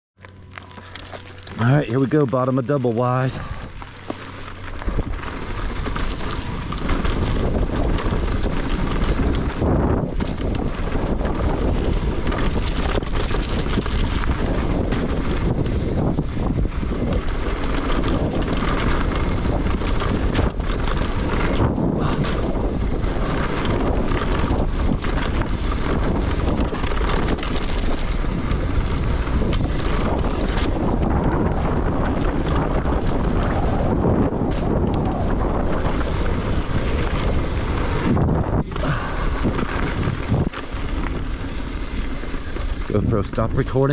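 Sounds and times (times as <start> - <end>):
bike rattles and knocks: 0.2 - 43.9
tyres rumbling over dirt: 0.2 - 43.9
wind buffeting microphone: 0.4 - 43.9.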